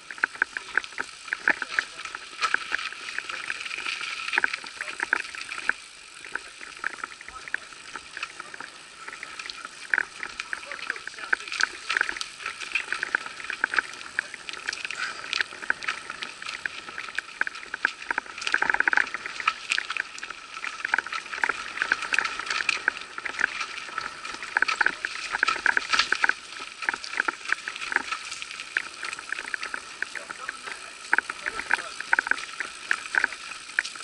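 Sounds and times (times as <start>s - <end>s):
bike rattling over rough trail: 0.0s - 34.0s.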